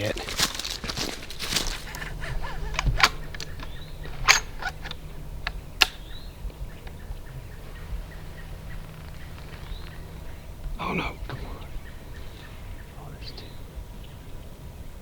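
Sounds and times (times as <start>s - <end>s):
footsteps crunching outdoors: 0.0s - 14.9s
faint bird calls: 0.0s - 15.0s.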